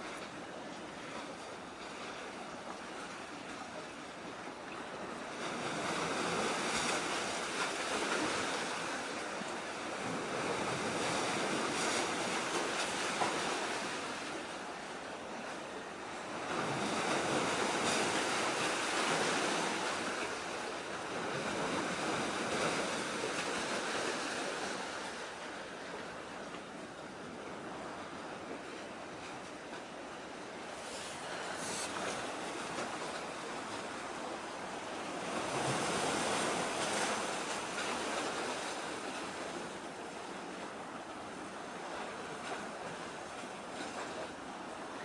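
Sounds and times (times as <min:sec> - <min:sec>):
waves washing onto shore: 0:00.0 - 0:45.0.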